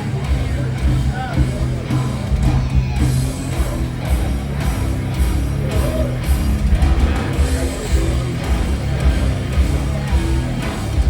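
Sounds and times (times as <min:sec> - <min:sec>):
distorted guitar and bass: 0:00.0 - 0:11.0.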